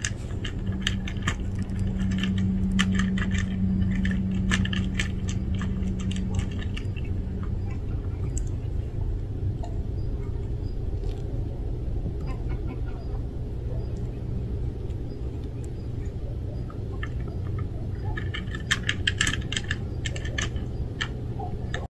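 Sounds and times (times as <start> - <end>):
cat crunching dry kibble: 0.0 - 12.0, 13.9 - 21.9
low background rumble: 0.0 - 21.9.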